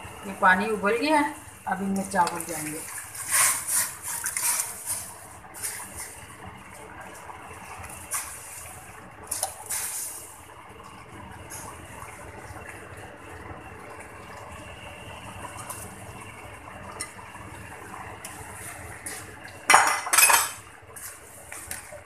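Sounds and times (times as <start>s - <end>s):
pot of water boiling: 0.0s - 22.0s.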